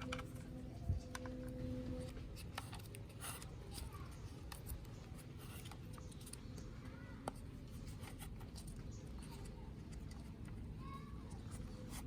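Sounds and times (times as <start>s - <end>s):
light rustling of handling: 0.0s - 12.0s.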